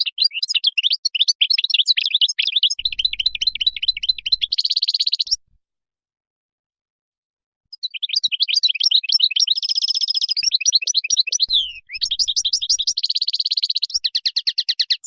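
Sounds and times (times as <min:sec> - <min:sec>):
goldfinch twittering song: 0:00.0 - 0:05.4, 0:07.7 - 0:15.0.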